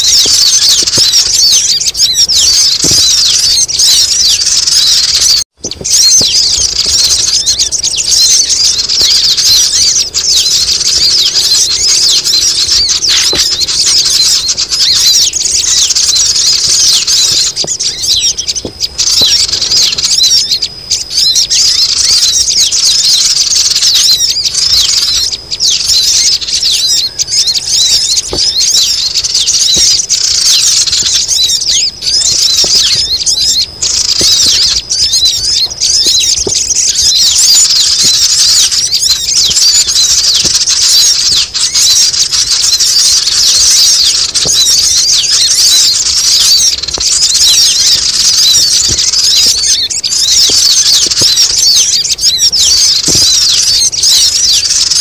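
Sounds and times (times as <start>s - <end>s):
chorus of small birds chirping: 0.0s - 55.0s.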